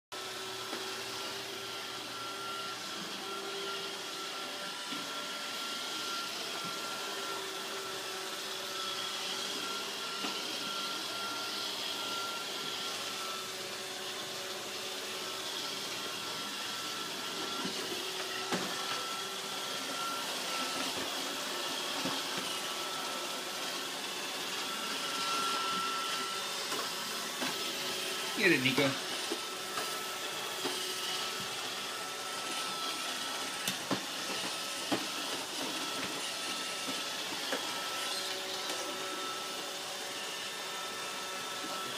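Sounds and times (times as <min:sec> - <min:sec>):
robot vacuum whirring: 0:00.2 - 0:41.9.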